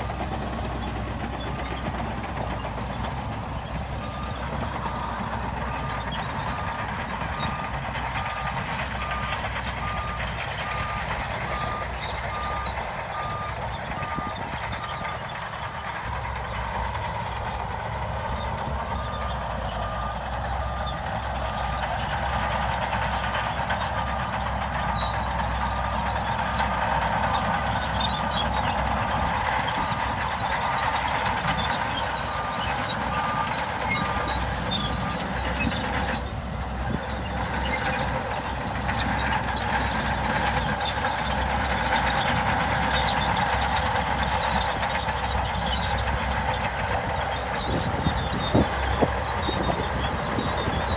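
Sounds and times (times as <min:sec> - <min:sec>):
diesel construction machinery: 0:00.0 - 0:50.9.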